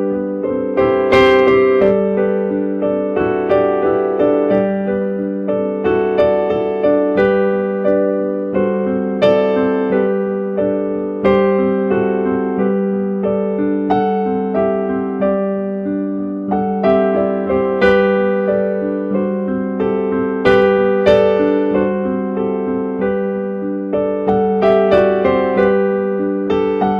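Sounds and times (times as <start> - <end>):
slow electric piano music: 0.0 - 26.9.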